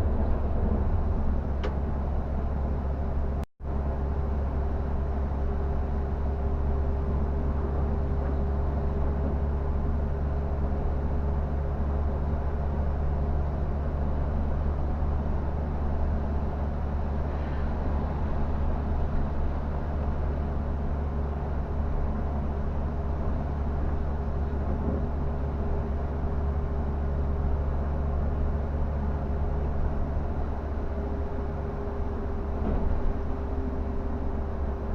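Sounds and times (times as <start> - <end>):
bus diesel engine droning: 0.0 - 34.9
road noise: 0.0 - 34.9.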